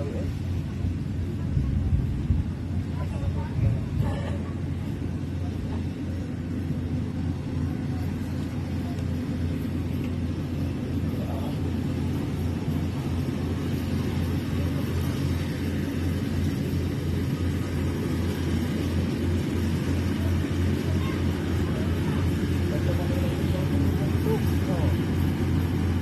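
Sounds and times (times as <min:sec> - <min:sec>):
harvester engine droning: 0:00.0 - 0:26.0.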